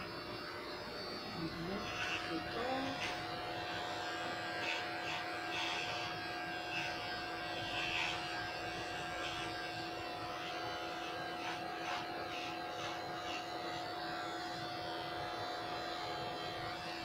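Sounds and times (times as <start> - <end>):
electric pet clipper humming: 0.0 - 17.0.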